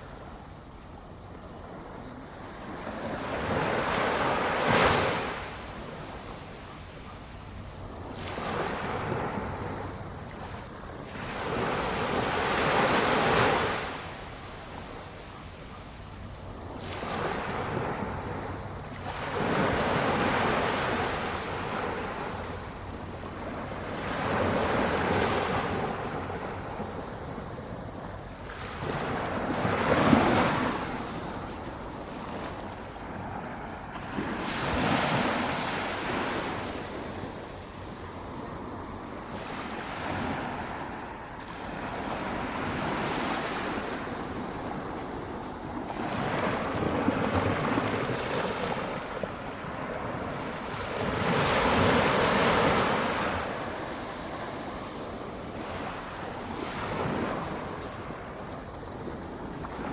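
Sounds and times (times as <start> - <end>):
small waves breaking on sand: 1.4 - 59.9.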